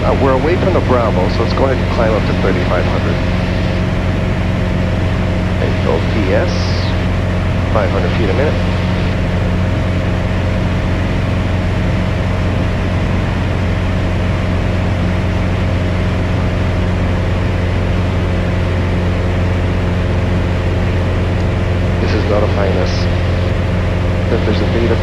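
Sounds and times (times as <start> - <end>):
aircraft engine and propeller drone: 0.0 - 25.0.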